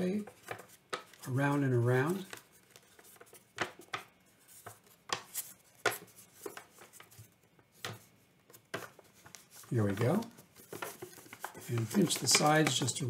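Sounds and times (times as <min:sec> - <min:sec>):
paper crackling and rustling: 0:00.0 - 0:13.0.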